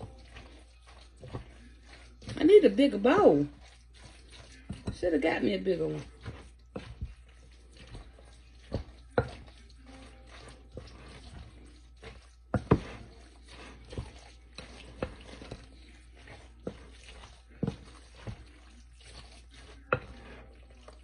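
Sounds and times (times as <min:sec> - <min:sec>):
utensil stirring in a bowl: 0:00.0 - 0:21.0.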